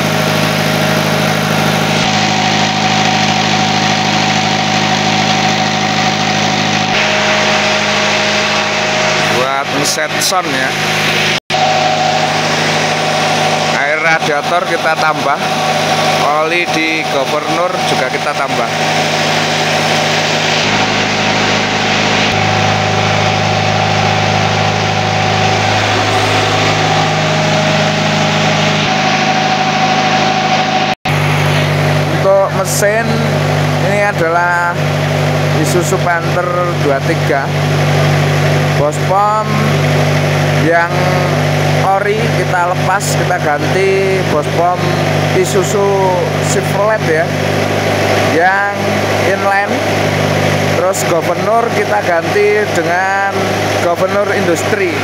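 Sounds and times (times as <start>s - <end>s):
diesel generator engine running: 0.0s - 55.0s
steady whine: 0.0s - 55.0s.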